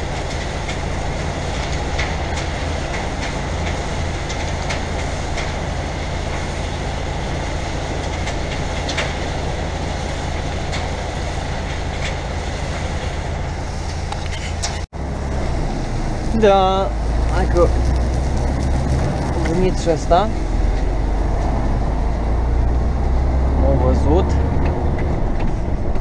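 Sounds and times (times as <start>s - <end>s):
diesel engine rumble: 0.0s - 26.0s.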